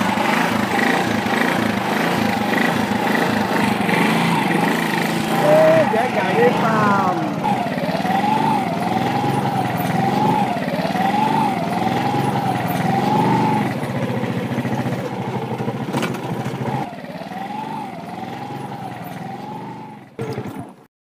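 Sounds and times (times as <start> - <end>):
motorcycle engine wavering: 0.0 - 20.9.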